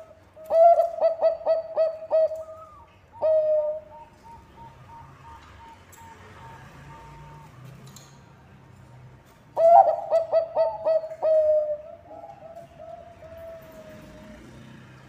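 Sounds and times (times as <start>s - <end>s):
dove cooing: 0.0s - 7.4s, 9.6s - 14.7s.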